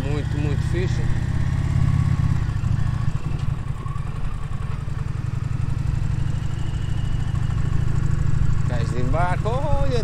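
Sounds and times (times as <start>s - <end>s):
motorcycle engine rumble: 0.0s - 10.0s.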